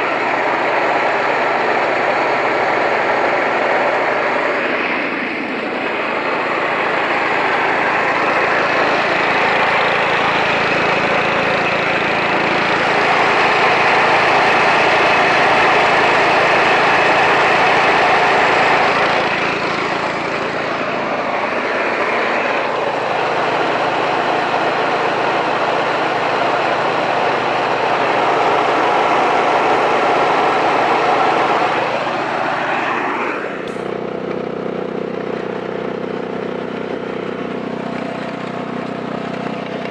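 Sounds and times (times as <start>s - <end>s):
lawn tractor engine mowing: 0.0s - 39.9s.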